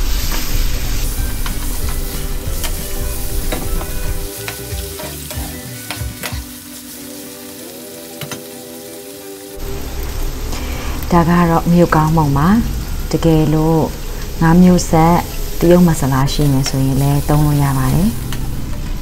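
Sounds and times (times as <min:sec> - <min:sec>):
pork and garlic sizzling in pan: 0:00.0 - 0:19.0.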